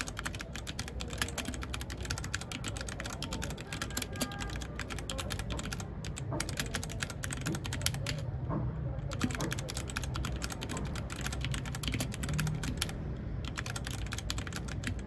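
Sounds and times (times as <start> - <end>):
mechanical keyboard typing: 0.0 - 15.0.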